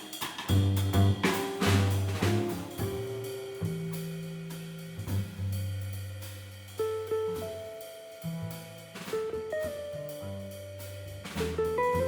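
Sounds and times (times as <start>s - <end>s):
cymbals: 0.0s - 12.0s
jazz quartet playing: 0.5s - 12.0s.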